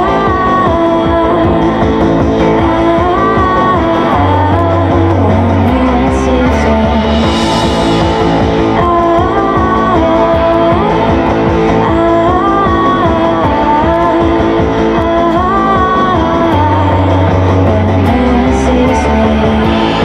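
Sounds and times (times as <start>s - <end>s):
bass guitar: 0.0s - 20.0s
electric guitars: 0.0s - 20.0s
held low bass notes: 0.0s - 20.0s.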